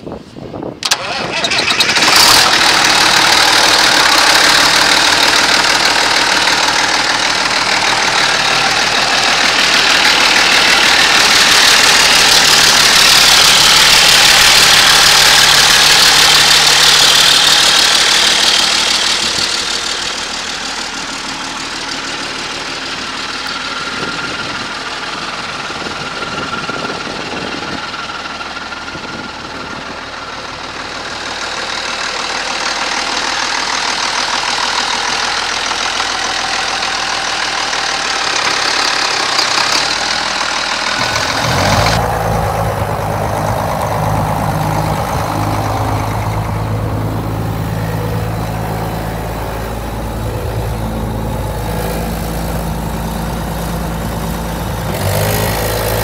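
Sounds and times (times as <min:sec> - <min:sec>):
diesel tractor engine idling: 0:00.0 - 0:56.0.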